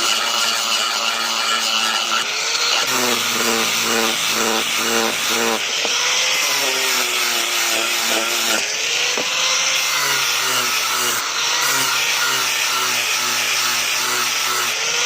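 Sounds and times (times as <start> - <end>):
electric grinder grinding steel: 0.0 - 15.0.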